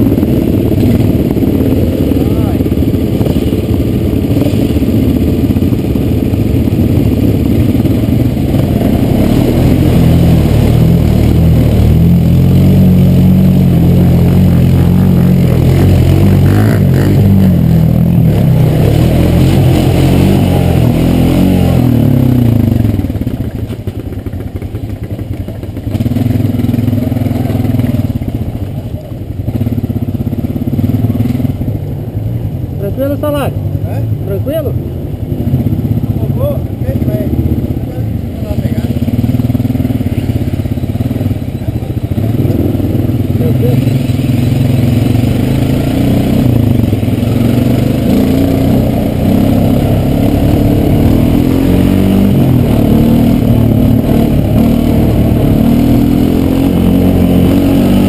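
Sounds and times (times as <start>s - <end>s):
quad bike engine: 0.0s - 58.0s.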